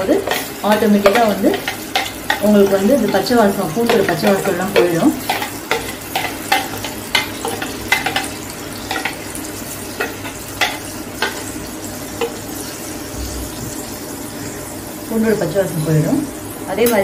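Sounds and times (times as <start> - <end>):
tomato and garlic sizzling in oil: 0.0 - 17.0.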